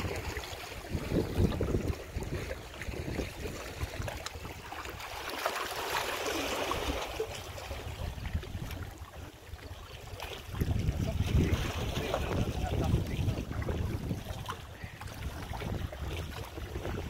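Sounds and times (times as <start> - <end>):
wind rumble on microphone: 0.0 - 5.0, 6.8 - 17.0
waves lapping against rocks: 0.0 - 17.0.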